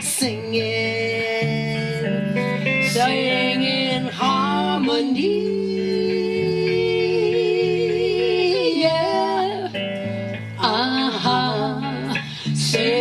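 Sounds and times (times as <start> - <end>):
acoustic guitar: 0.0 - 13.0
women singing in harmony: 0.0 - 13.0.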